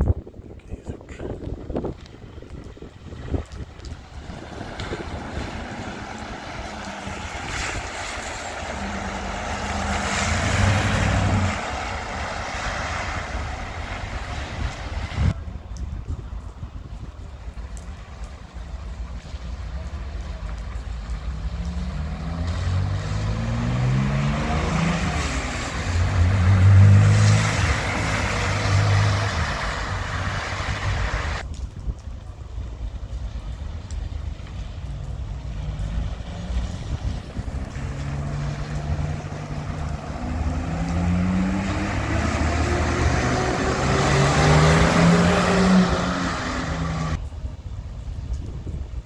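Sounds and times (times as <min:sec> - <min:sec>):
car engines accelerating: 0:00.6 - 0:15.4, 0:17.8 - 0:31.4, 0:34.6 - 0:47.2.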